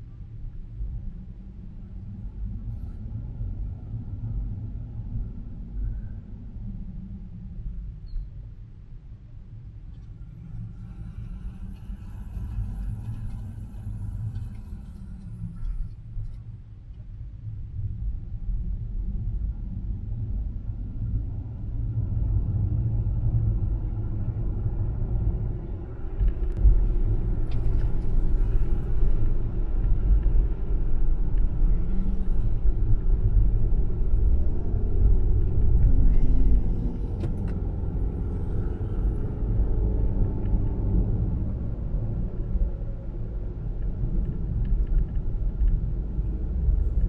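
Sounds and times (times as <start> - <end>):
car driving on paved road: 0.0 - 47.0.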